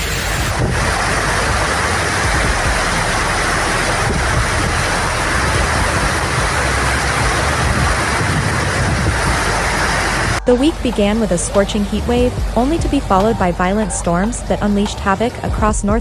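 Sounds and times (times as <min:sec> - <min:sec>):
storm water rushing: 0:00.0 - 0:16.0.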